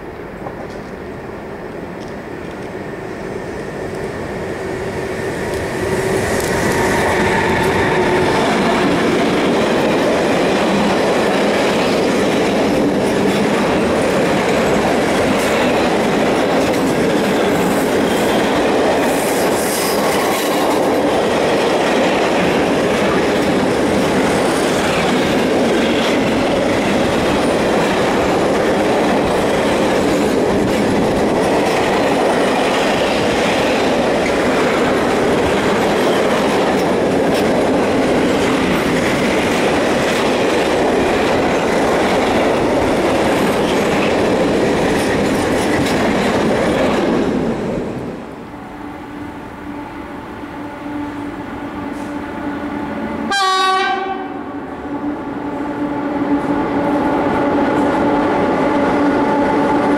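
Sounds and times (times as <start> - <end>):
electric locomotive passing: 0.0 - 59.9.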